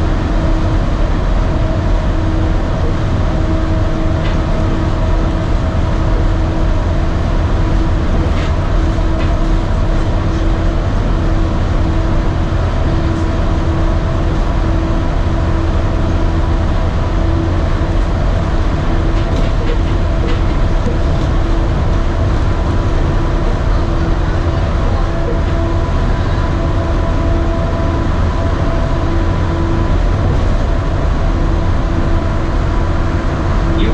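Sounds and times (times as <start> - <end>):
monorail rumble and hum: 0.0 - 33.9.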